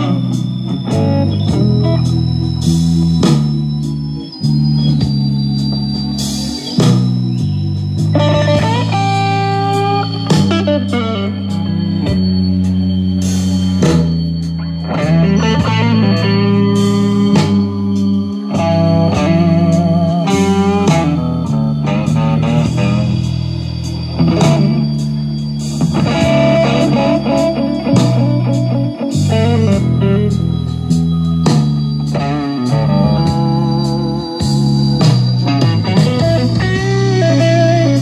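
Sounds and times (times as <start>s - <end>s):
low bass line: 0.0s - 38.0s
plucked guitar: 0.0s - 38.0s.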